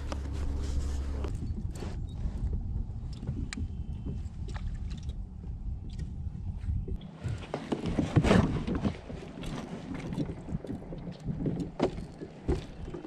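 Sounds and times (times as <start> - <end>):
knocks and rattles against kayak: 0.0 - 13.0.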